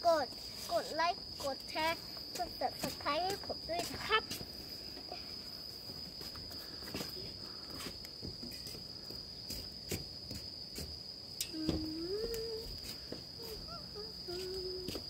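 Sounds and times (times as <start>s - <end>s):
high-pitched insect trill: 0.0s - 15.0s
footsteps: 2.2s - 11.0s, 11.6s - 15.0s.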